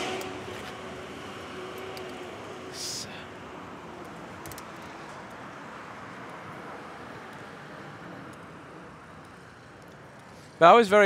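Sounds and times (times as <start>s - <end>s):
city traffic and road noise: 0.0s - 11.0s.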